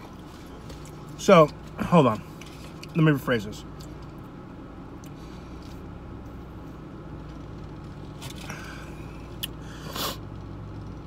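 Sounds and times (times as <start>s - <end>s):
car idling hum: 0.0s - 11.0s.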